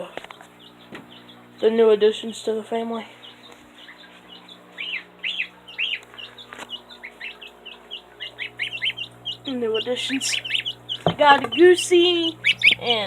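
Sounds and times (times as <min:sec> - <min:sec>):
gosling and chick peeping: 0:00.0 - 0:13.0.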